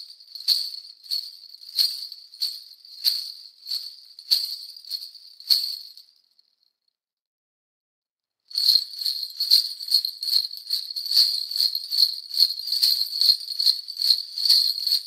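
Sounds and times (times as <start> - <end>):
jingle bells shaken: 0.0 - 6.3, 8.5 - 15.0.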